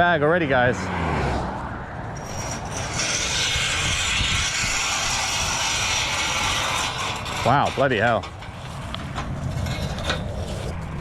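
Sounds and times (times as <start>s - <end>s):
wind rumble on microphone: 0.6s - 11.0s
road traffic hiss: 1.4s - 11.0s.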